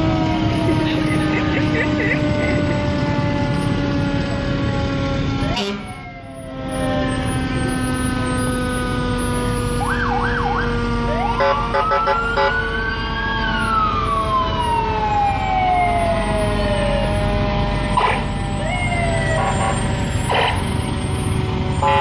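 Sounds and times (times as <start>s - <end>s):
engines humming: 0.0s - 22.0s
fire engine siren wailing: 0.0s - 22.0s.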